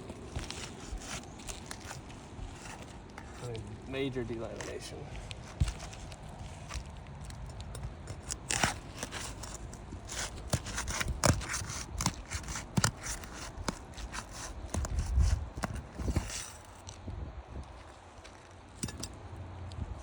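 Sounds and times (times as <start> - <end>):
shingle crackling and crunching: 0.0 - 20.0.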